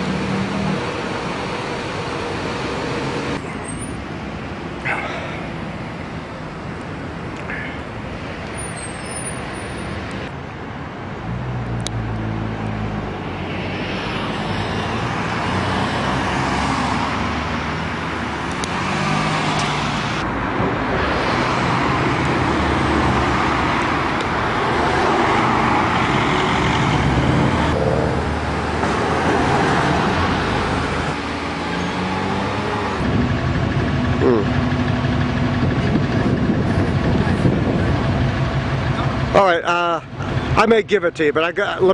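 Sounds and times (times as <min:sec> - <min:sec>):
vehicle engines passing close by: 0:00.0 - 0:41.9.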